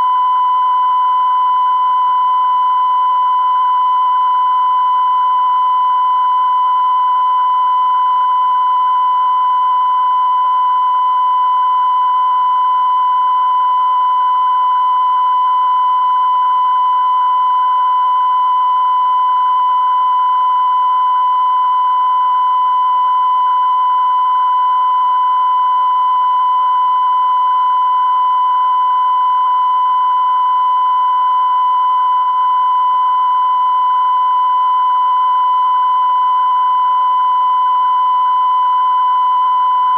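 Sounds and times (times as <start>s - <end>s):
steady high-pitched test tone beep: 0.0s - 39.9s.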